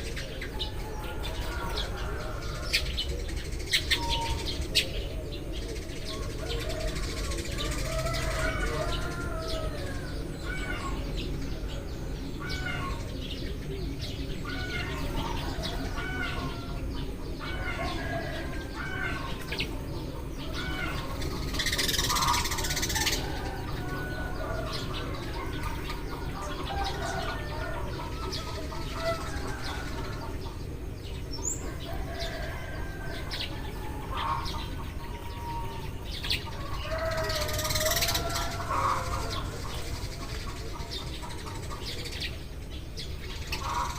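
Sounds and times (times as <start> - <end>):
sparrows chirping: 0.0 - 43.9.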